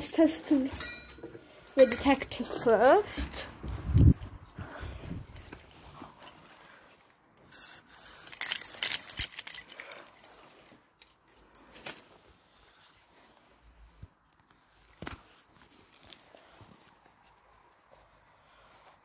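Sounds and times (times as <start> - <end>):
rustling handling noise: 0.0 - 19.0.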